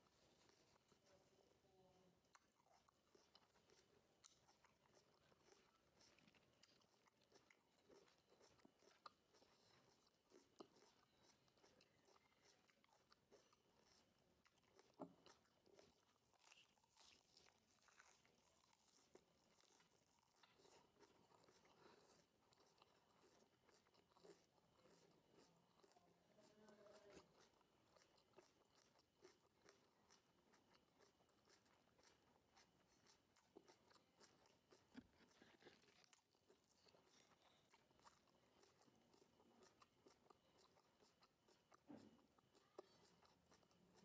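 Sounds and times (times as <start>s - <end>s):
chewing crisp lettuce: 0.0s - 44.0s.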